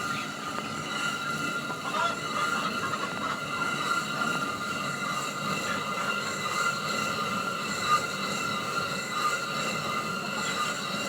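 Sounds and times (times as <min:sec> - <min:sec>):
high-pitched machine whine: 0:00.0 - 0:11.0.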